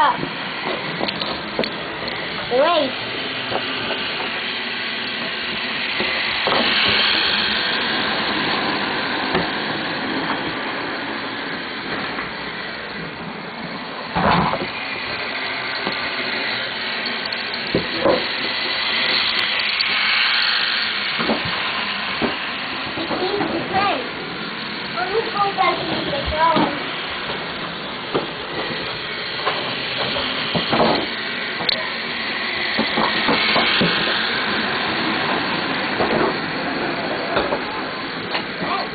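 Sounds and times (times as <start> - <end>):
toy train motors whirring: 0.0 - 38.9
wheels clicking on track: 0.0 - 38.9.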